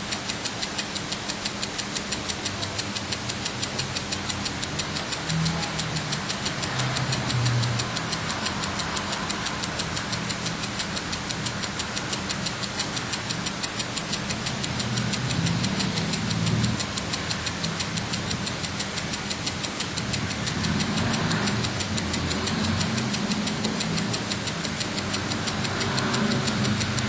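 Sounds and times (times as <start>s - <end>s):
clock ticking: 0.0s - 27.0s.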